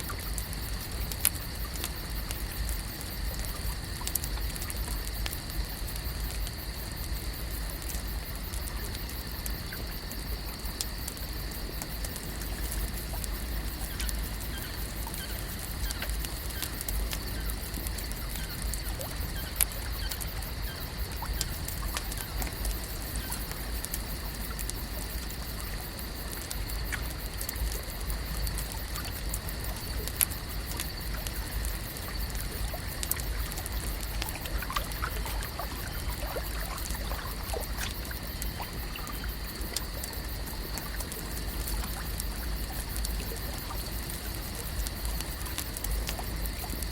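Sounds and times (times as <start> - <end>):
small scattered clicks: 0.1 - 46.9.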